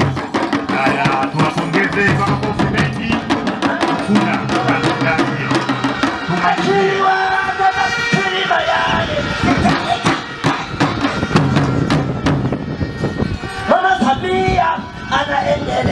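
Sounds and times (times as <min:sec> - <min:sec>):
man singing: 0:00.0 - 0:11.8, 0:13.6 - 0:15.9
fast drumming: 0:00.0 - 0:12.9.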